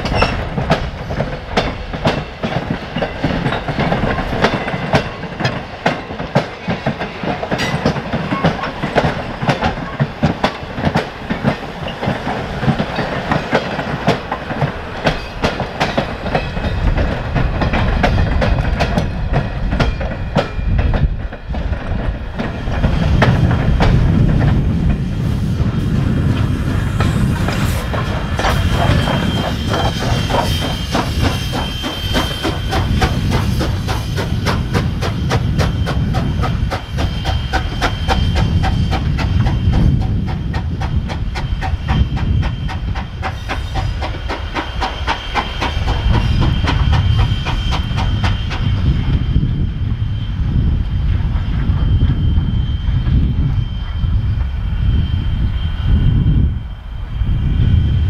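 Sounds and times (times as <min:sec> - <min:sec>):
train wheels clicking over rail joints: 0:00.0 - 0:49.5
low train rumble: 0:00.0 - 0:58.0.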